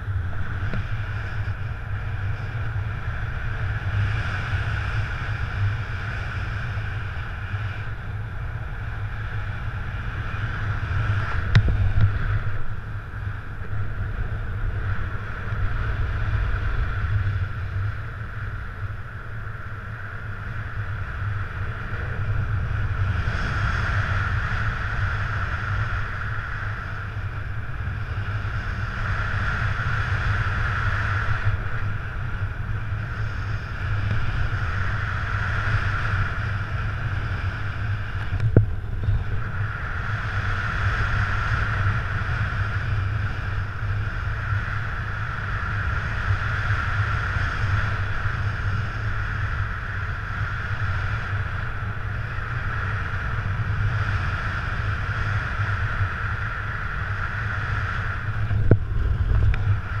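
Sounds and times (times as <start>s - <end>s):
wind rushing over microphone: 0.0s - 60.0s.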